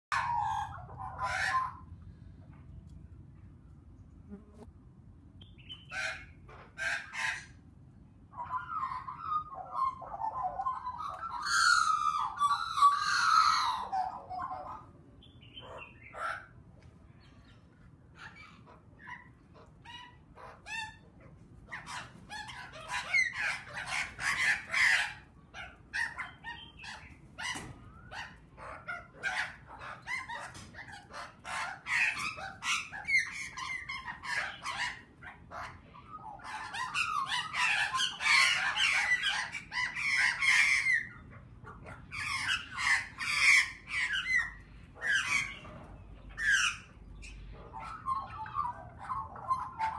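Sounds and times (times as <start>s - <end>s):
magpies calling: 0.1s - 2.1s, 5.4s - 7.7s, 8.3s - 49.9s.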